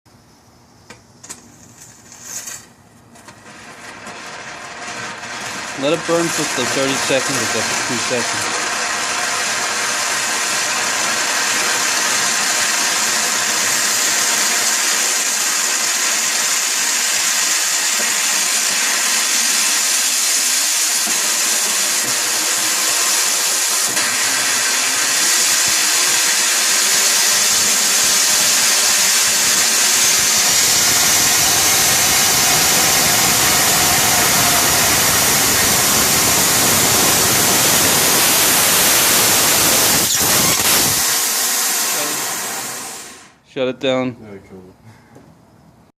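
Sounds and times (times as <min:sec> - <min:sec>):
rocket engine exhaust hiss: 0:03.4 - 0:43.4.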